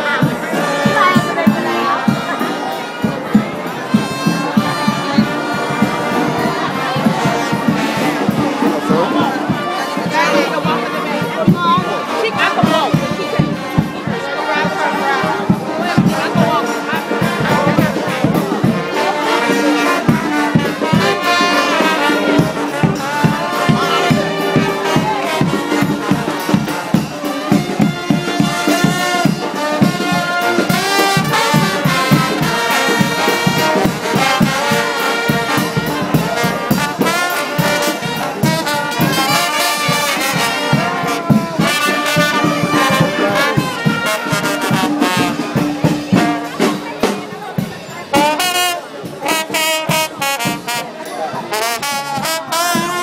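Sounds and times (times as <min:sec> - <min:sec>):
brass band playing: 0:00.0 - 0:53.0.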